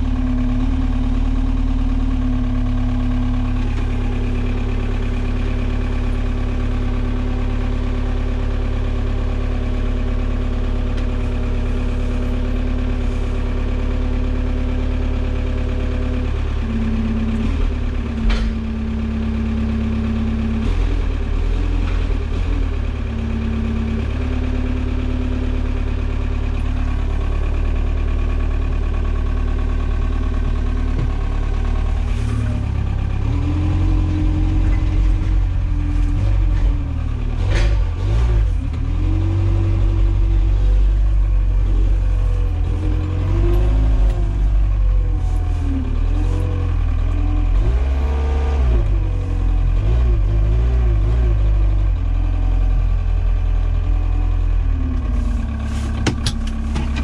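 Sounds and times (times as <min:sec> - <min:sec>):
forklift engine humming: 0:00.0 - 0:57.0.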